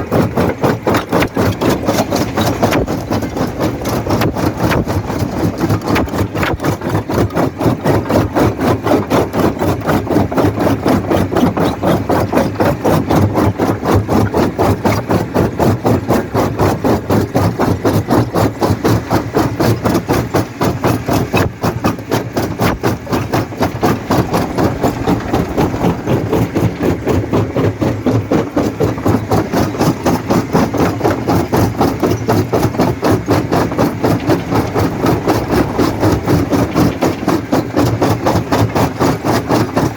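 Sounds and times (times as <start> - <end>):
rock crusher pulsing: 0.0 - 39.9.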